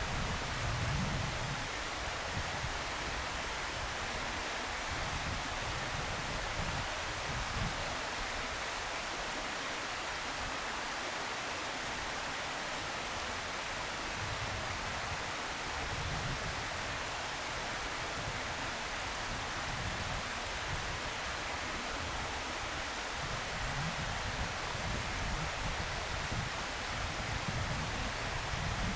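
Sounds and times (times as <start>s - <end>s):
steady outdoor hiss: 0.0s - 28.9s.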